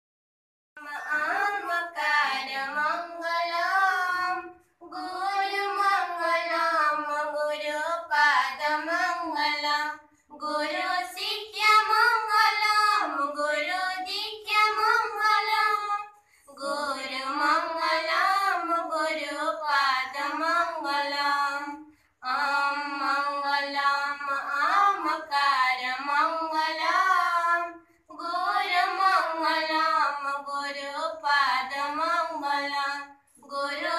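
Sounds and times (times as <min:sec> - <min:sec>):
children singing in unison: 0:00.8 - 0:33.9.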